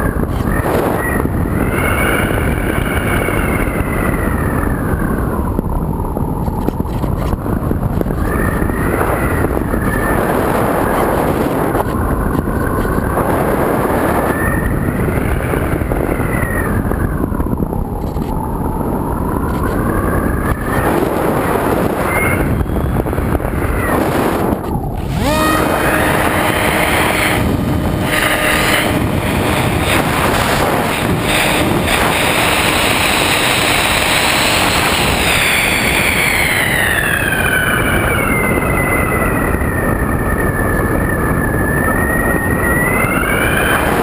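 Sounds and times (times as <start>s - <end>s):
electric motor and propeller whine: 0.0s - 44.0s
wind noise on microphone: 0.0s - 44.0s.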